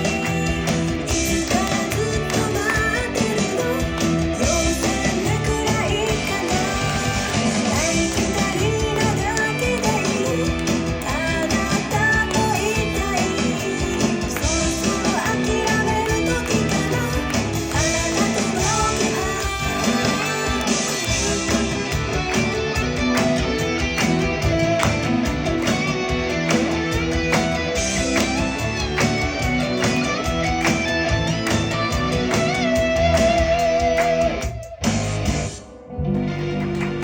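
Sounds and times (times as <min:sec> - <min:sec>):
live pop-rock song: 0:00.0 - 0:37.0.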